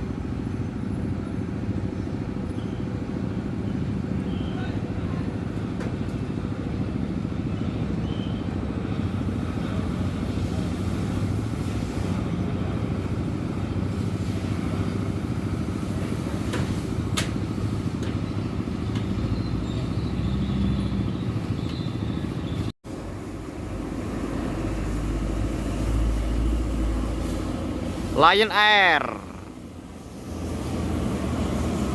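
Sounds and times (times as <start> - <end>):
engine low rumble: 0.0 - 31.9.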